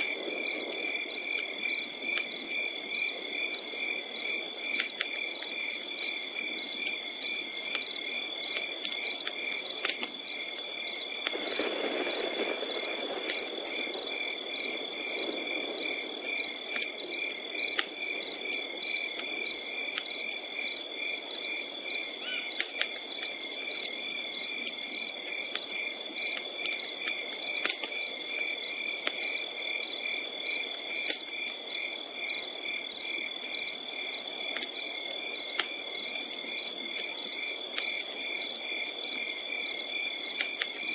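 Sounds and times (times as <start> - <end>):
campfire crackles: 0.0 - 40.9
crickets chirping: 0.0 - 40.9.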